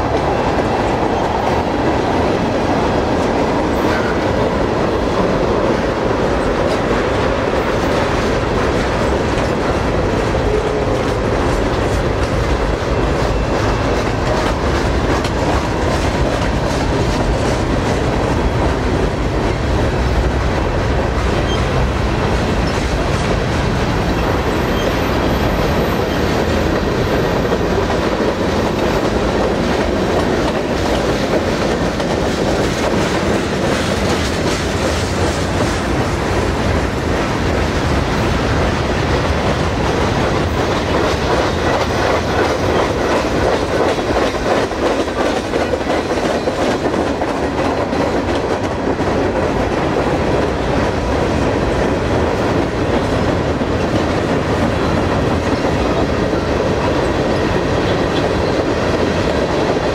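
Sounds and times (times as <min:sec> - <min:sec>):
freight cars rumbling and rattling: 0:00.0 - 0:59.9
wheels clacking on rails: 0:00.0 - 0:59.9.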